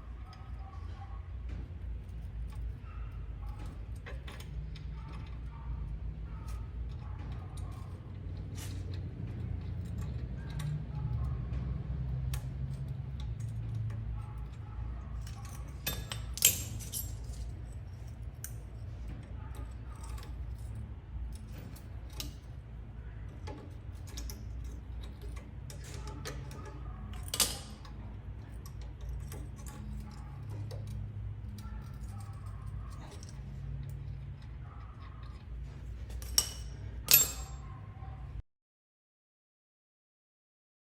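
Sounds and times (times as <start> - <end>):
small metallic clicks and clinks: 1.8 - 38.0.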